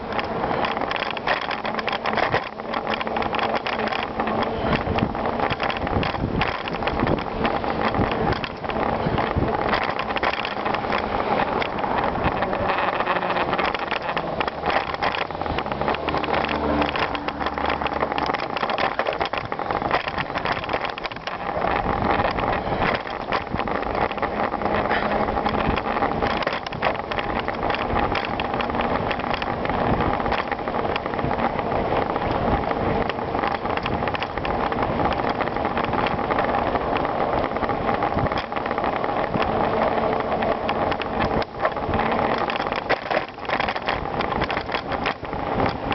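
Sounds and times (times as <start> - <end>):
bicycle rattling over rough trail: 0.0 - 45.9
wind buffeting microphone: 0.0 - 45.9.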